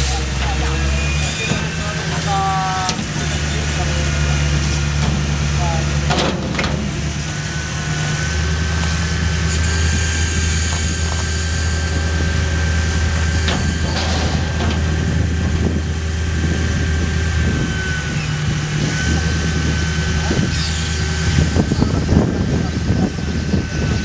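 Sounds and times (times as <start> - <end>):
diesel engine under load: 0.0 - 24.0
hydraulic whine: 0.0 - 24.0.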